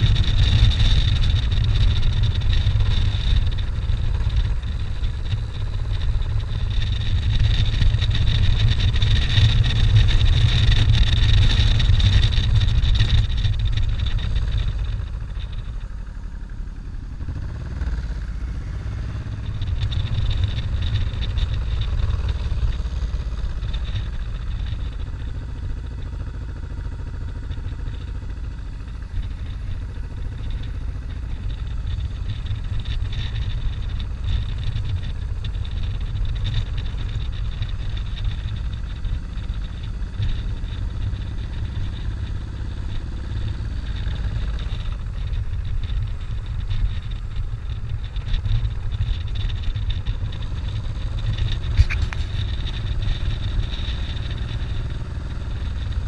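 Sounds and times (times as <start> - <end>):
motorcycle engine cruising: 0.0 - 56.0
wind noise rumble: 0.0 - 56.0.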